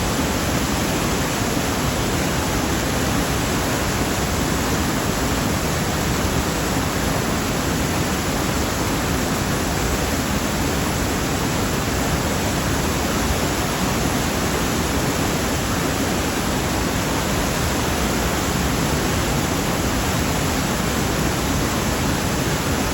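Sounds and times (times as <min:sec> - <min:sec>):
river rushing: 0:00.0 - 0:22.9.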